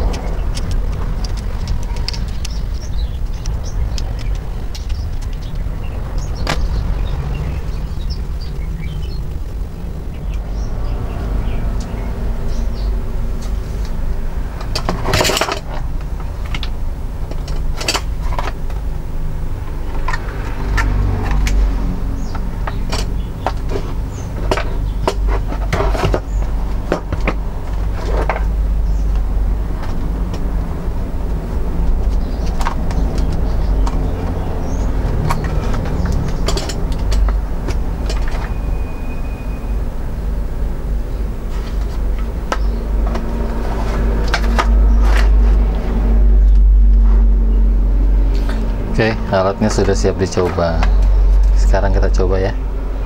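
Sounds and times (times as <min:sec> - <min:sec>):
steady low hum: 0:00.0 - 0:53.0
steady low rumble: 0:00.0 - 0:53.0.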